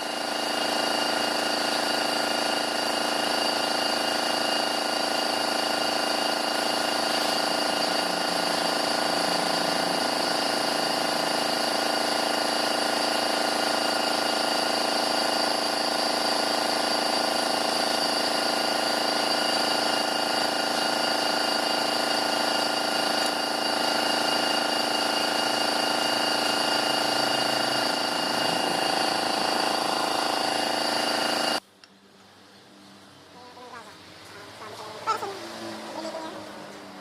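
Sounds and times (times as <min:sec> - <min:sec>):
engine running with whine: 0:00.0 - 0:31.6.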